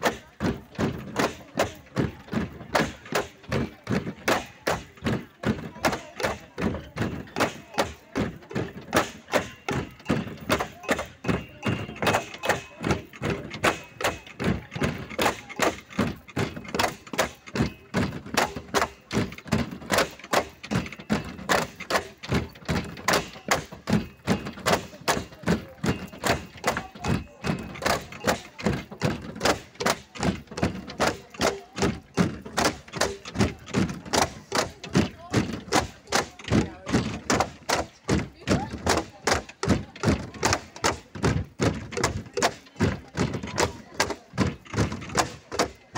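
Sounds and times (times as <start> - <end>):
bamboo poles knocking rhythmically: 0.0 - 45.9.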